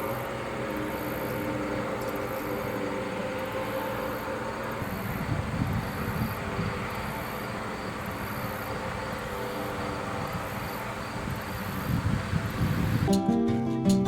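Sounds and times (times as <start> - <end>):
harvesting machinery rumbling: 0.0 - 13.1
insects chirping: 0.0 - 13.1.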